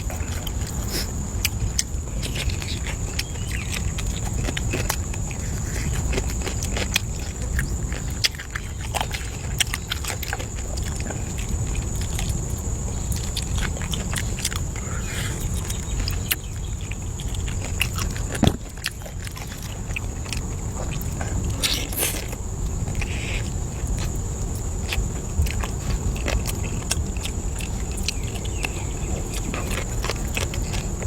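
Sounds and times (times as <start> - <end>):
person chewing food: 0.0 - 31.0
steady high-pitched hum: 0.0 - 31.0.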